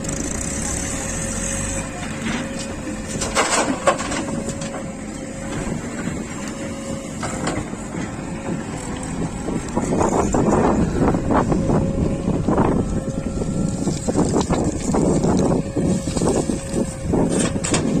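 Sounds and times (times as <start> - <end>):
diesel engine whining: 0.0 - 18.0.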